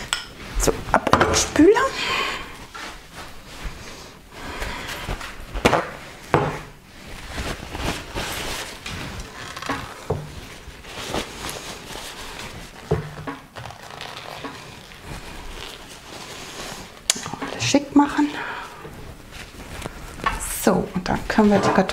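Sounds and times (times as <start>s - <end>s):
scraping and rustling: 2.6s - 21.9s.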